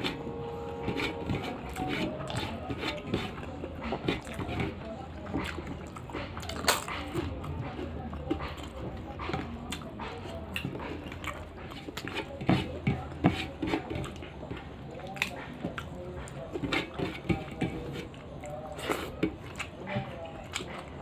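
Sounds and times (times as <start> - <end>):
chewing and lip-smacking: 0.8 - 13.1, 13.8 - 17.0, 18.0 - 21.0.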